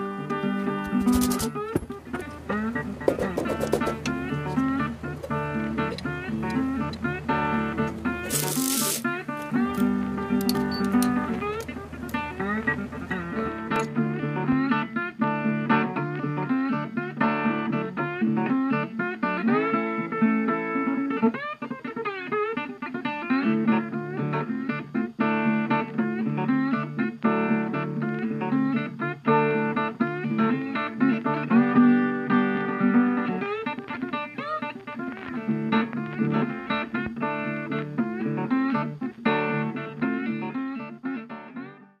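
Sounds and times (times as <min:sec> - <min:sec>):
bluesy guitar plucked and strummed: 0:00.0 - 0:42.0.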